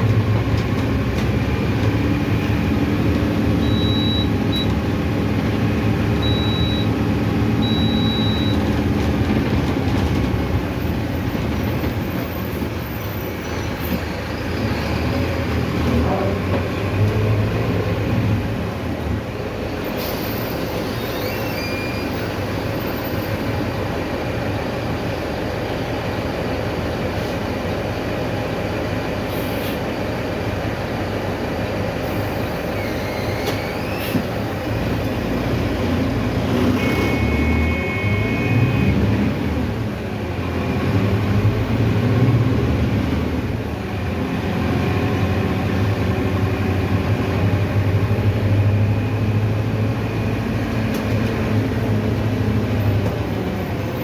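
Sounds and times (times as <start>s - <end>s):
bus engine drone: 0.0s - 54.0s
road noise: 0.0s - 54.0s.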